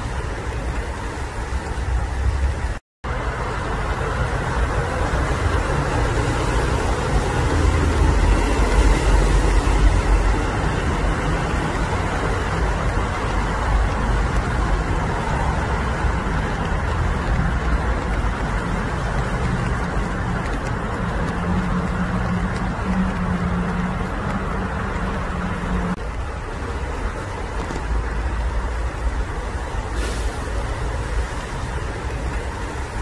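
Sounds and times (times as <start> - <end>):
distant road traffic rumble: 0.0 - 33.0.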